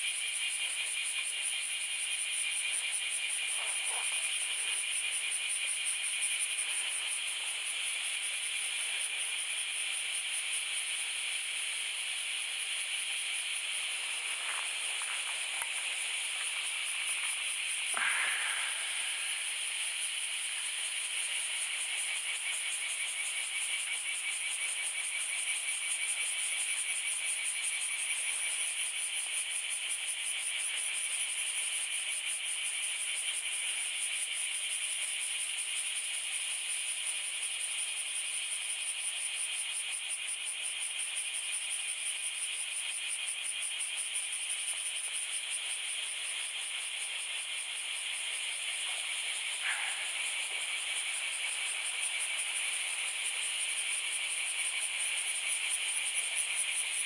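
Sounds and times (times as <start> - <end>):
insects buzzing trill: 0.0 - 34.7, 39.1 - 57.0.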